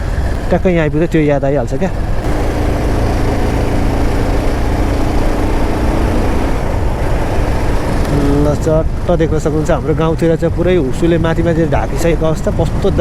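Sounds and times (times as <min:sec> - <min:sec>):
motorcycle engine hum: 0:00.0 - 0:13.0
wind and road noise: 0:00.0 - 0:13.0.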